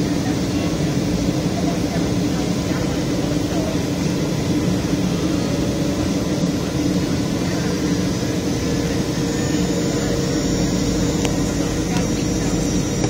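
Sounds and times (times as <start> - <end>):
airliner cabin air rush: 0.0 - 13.0
low engine hum: 0.0 - 13.0.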